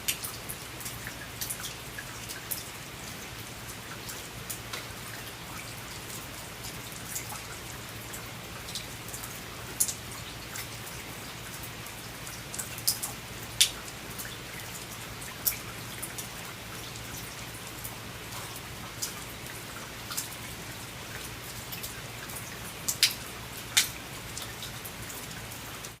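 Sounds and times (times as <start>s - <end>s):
rain pattering on a veranda: 0.0s - 26.0s
sharp clicks of raindrops: 0.0s - 26.0s.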